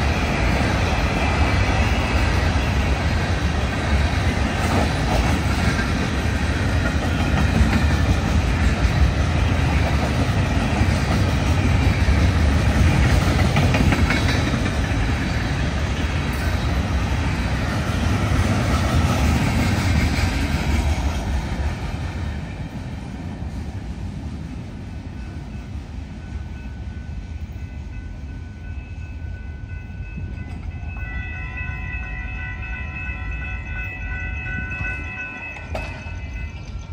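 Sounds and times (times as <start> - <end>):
freight train rumbling on rails: 0.0 - 36.9.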